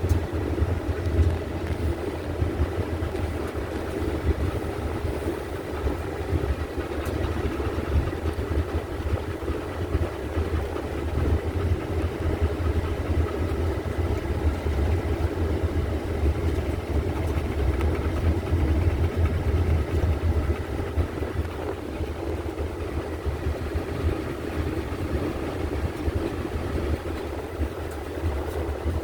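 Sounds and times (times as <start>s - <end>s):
van engine and road rumble: 0.0s - 29.0s.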